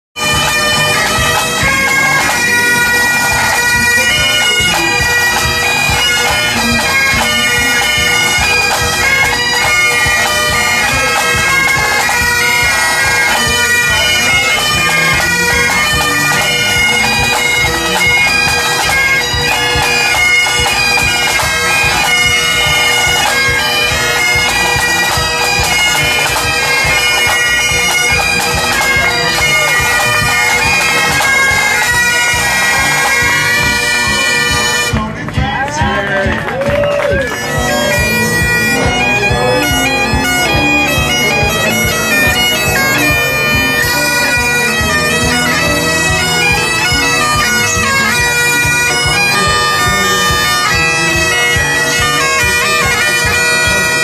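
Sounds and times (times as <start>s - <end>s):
bagpipes playing over drone: 0.2s - 35.4s, 36.7s - 54.0s.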